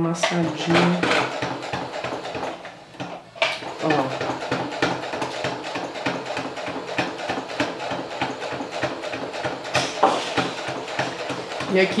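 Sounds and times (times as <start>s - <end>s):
sewing machine stitching: 0.2s - 12.0s.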